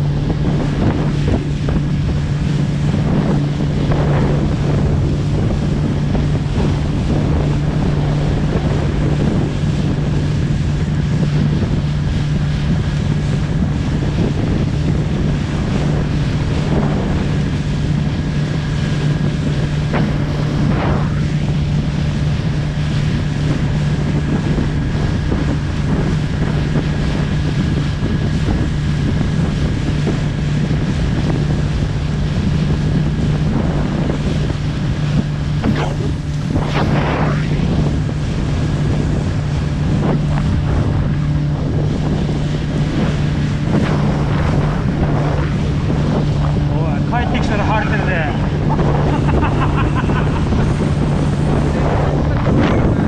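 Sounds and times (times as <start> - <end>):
boat engine humming: 0.0 - 53.0
waves splashing against hull: 0.0 - 53.0
wind buffeting microphone: 0.0 - 53.0.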